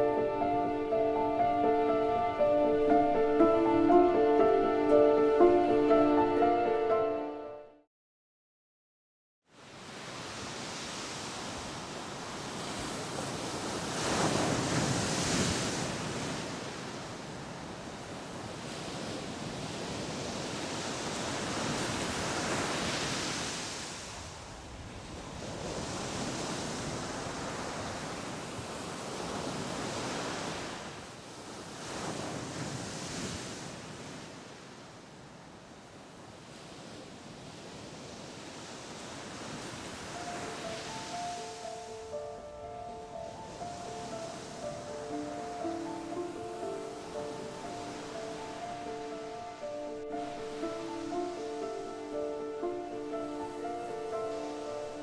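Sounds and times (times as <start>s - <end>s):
surf breaking on a beach: 9.6s - 35.1s, 36.4s - 55.0s.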